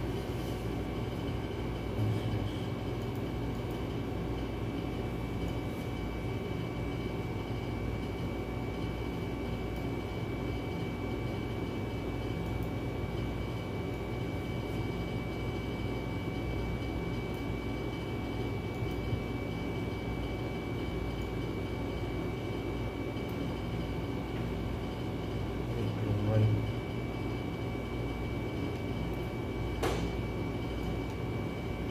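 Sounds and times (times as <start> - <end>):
mechanical hum: 0.0 - 31.9.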